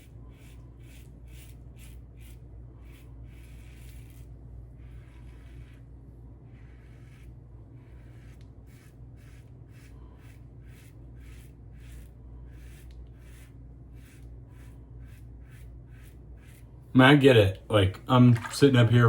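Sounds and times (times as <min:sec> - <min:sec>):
shaving brush working soap lather: 0:00.0 - 0:17.3, 0:18.1 - 0:19.0
low steady hum: 0:00.0 - 0:19.0.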